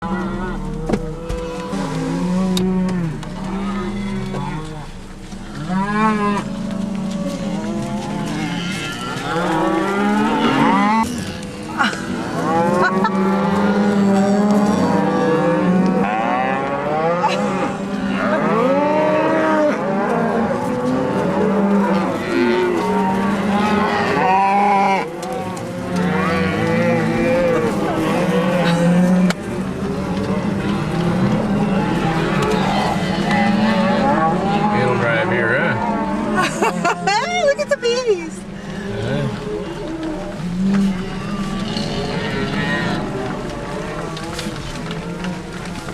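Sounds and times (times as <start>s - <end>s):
cattle mooing and bawling: 0.0s - 45.9s.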